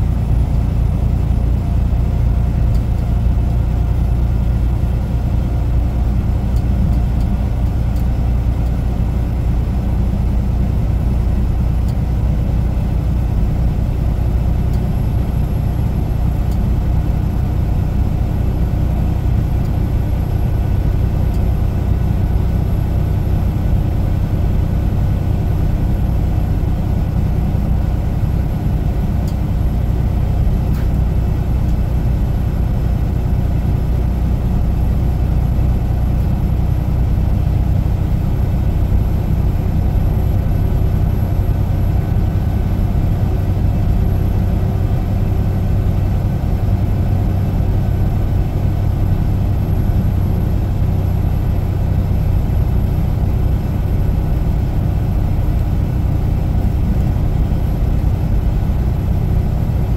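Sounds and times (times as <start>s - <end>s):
diesel truck engine running: 0.0s - 59.9s
road noise: 0.0s - 59.9s.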